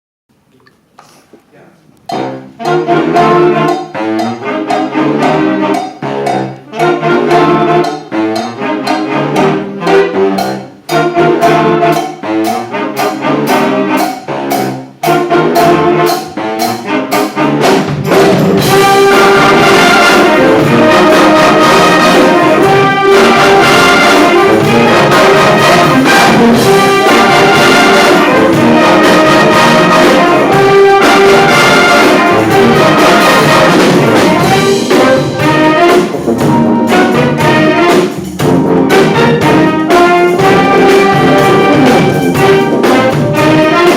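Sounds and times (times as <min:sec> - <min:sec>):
brass band playing: 0:02.0 - 0:43.9.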